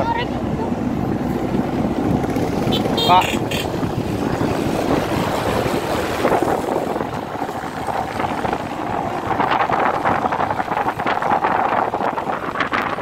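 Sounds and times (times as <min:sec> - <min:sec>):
wind buffeting microphone: 0:00.0 - 0:13.0
motorcycle engine running: 0:00.2 - 0:13.0.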